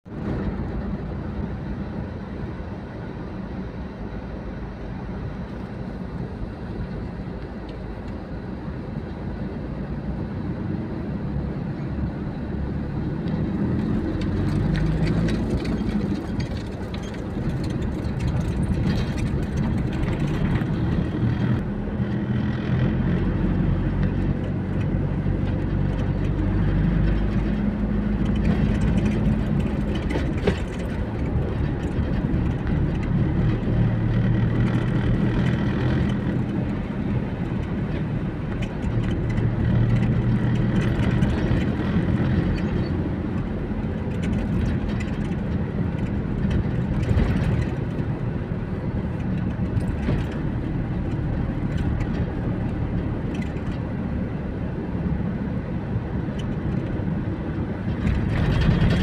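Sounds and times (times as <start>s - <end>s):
traffic engine and road rumble: 0.0s - 59.0s.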